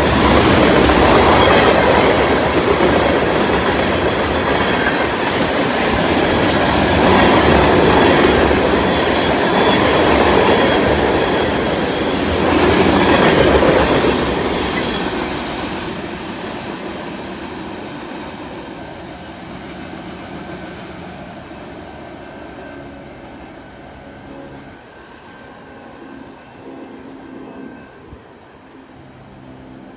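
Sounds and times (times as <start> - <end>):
freight train rolling past: 0.0 - 29.9.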